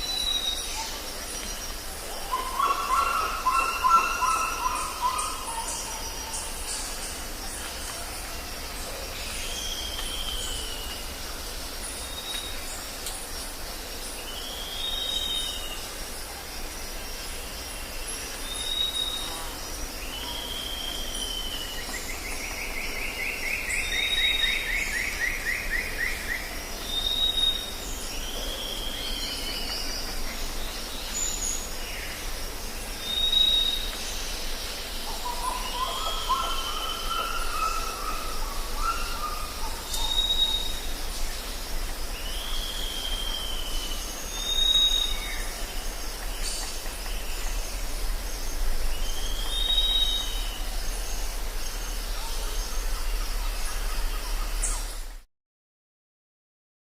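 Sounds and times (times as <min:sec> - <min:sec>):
insect drone: 0:00.0 - 0:55.2.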